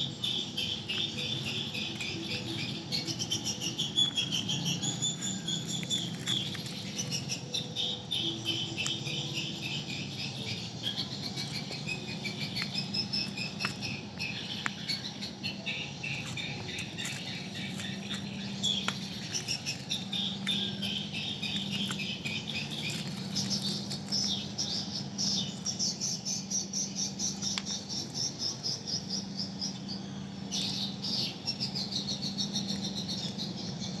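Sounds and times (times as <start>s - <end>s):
high-pitched chirps and trills: 0.0s - 34.0s.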